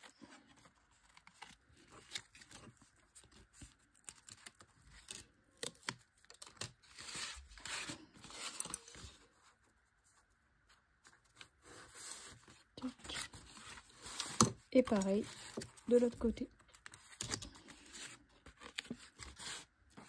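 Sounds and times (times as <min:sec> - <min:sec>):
cardstock rustling and scraping: 0:00.0 - 0:20.0.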